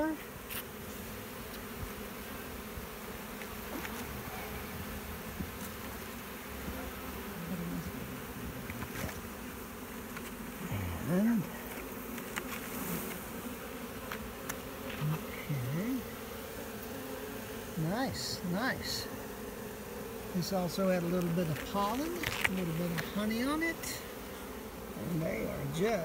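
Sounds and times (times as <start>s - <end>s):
bee swarm buzzing: 0.0s - 26.0s.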